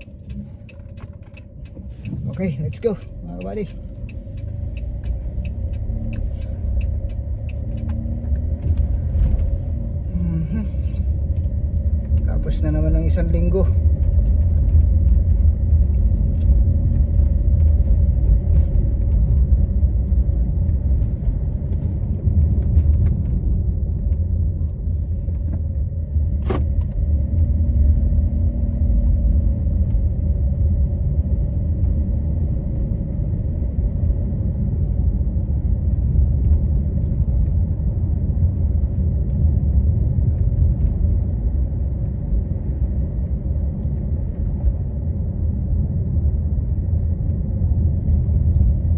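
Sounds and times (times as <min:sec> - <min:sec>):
car engine and road noise: 0:00.0 - 0:48.9.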